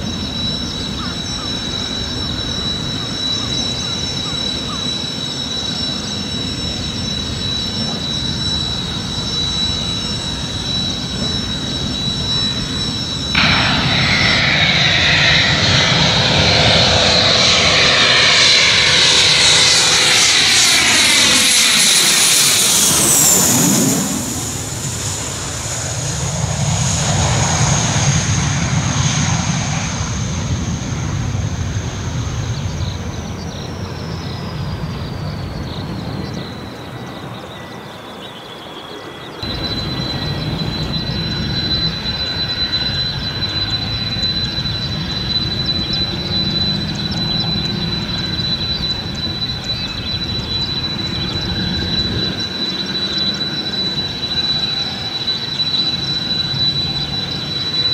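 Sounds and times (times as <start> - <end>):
jet idling whine: 0.0 - 57.9
jet passing low overhead: 0.0 - 57.9.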